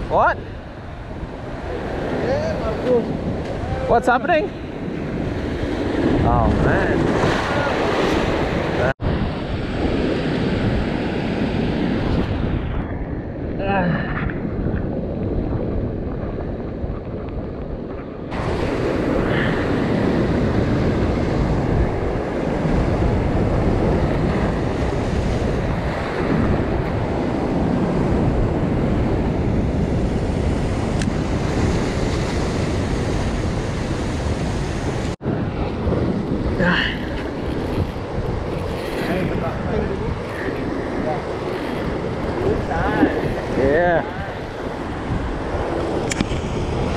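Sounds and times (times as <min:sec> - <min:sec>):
ocean surf breaking on rocks: 0:00.0 - 0:46.9
wind buffeting microphone: 0:00.0 - 0:46.9.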